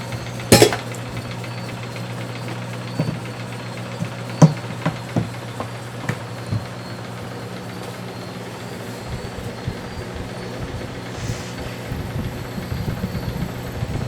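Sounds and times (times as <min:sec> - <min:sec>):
model steam engine humming: 0:00.0 - 0:14.0.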